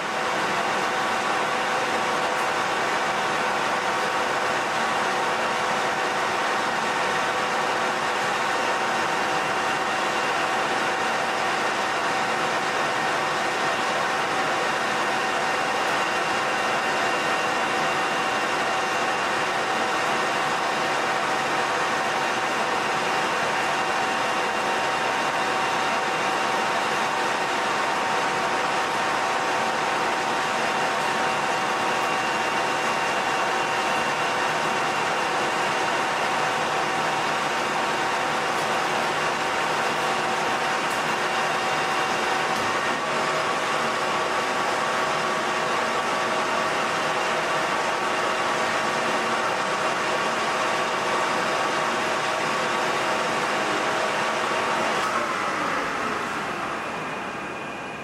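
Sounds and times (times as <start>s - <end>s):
lathe whirring with gear whine: 0.0s - 58.0s.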